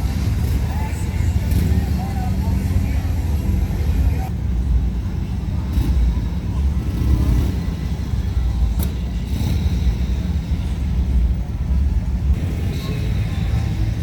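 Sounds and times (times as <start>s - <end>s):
car engines rumbling: 0.0s - 14.0s.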